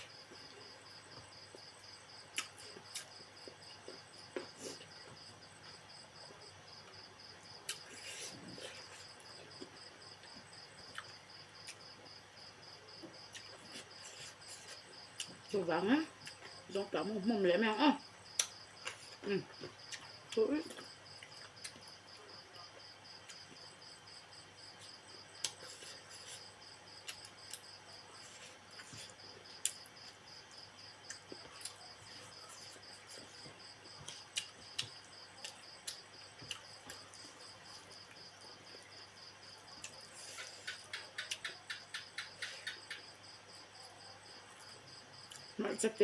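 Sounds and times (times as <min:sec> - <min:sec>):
cricket chirping: 0:00.0 - 0:46.0.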